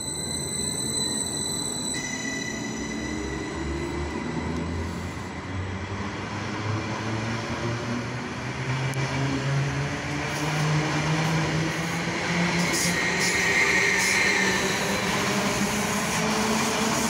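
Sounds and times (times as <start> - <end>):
train running on track: 0.0 - 17.0.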